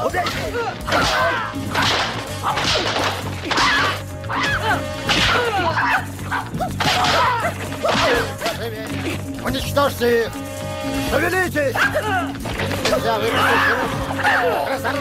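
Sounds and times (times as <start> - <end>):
yelping battle cries: 0.0 - 9.2, 11.6 - 15.0.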